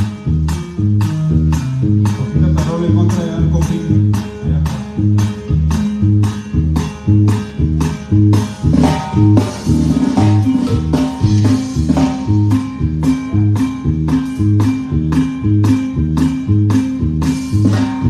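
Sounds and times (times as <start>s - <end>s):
bass line: 0.0s - 18.0s
live band instrumental groove: 0.0s - 18.0s
strummed guitar: 0.0s - 18.0s.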